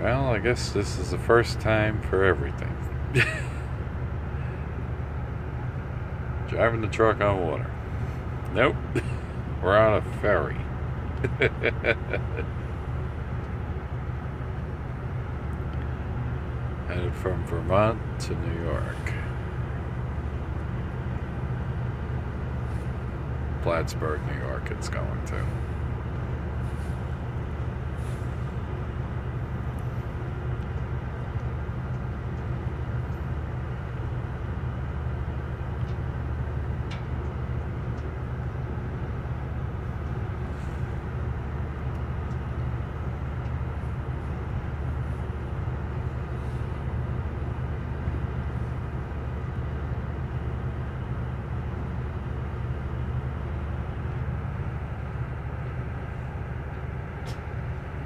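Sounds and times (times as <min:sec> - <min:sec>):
low diesel engine rumble: 0:00.0 - 0:58.0.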